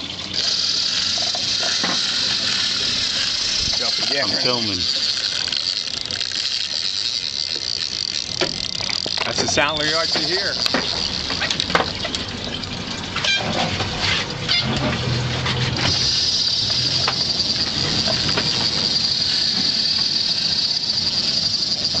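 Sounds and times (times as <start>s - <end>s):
fishing reel drag whining: 0.0s - 13.4s, 15.4s - 22.0s.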